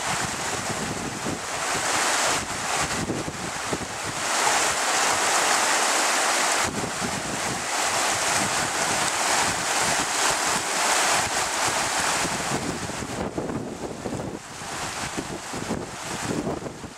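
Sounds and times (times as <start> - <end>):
wind buffeting microphone: 0.0 - 5.9, 6.5 - 16.9
churning water rushing: 0.0 - 16.9.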